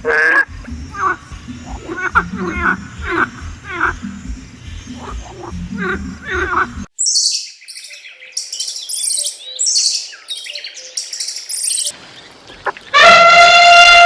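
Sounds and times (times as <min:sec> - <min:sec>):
small songbird chirping: 0:00.0 - 0:12.9.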